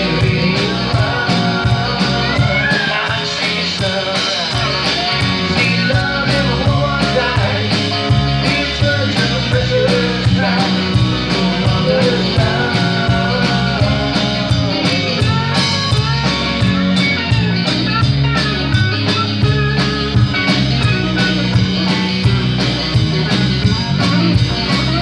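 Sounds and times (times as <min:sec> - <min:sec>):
country-rock band playing: 0:00.0 - 0:25.0
drum beat: 0:00.0 - 0:25.0.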